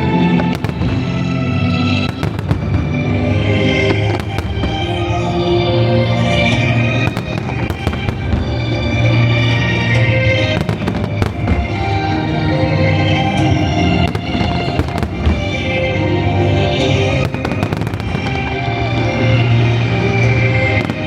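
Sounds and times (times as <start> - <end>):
fireworks bangs and crackles: 0.0 - 21.0
loud music: 0.0 - 21.0.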